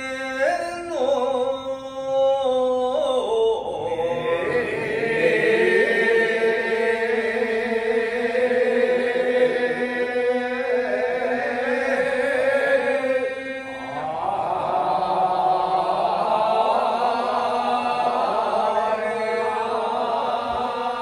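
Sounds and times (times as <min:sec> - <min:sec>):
men chanting unaccompanied: 0:02.8 - 0:21.0.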